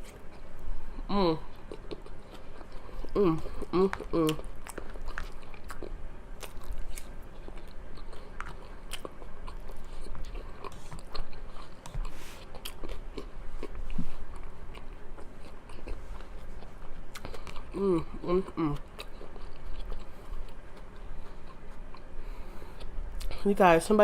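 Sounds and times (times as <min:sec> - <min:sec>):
person chewing food: 0:00.0 - 0:23.4.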